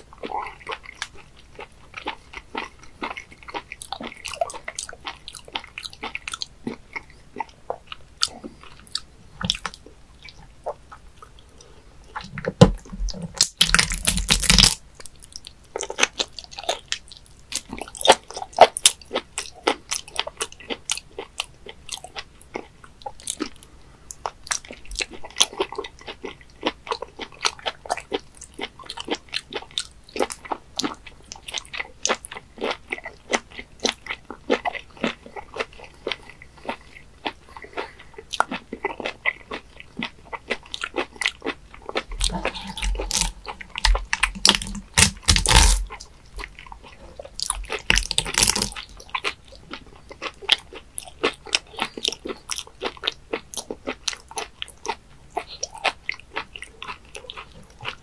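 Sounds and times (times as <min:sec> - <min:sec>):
wet chewing clicks: 0:00.0 - 0:58.0.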